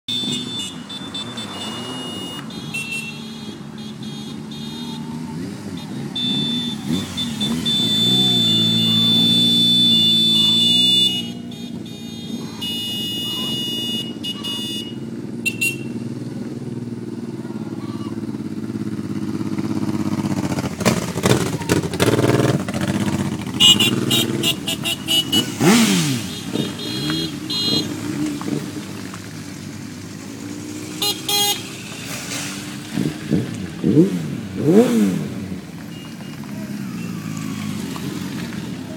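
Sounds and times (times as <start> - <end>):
motorcycles revving past: 0.1 - 38.9.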